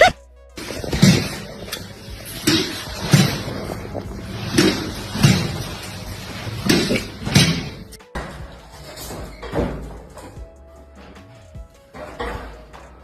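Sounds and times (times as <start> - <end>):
doors banging: 0.6 - 13.0.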